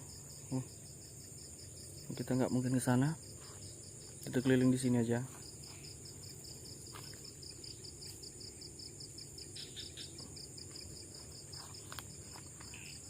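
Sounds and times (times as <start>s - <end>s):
insects trilling: 0.0s - 13.0s
pulsed insect chirp: 0.0s - 13.0s.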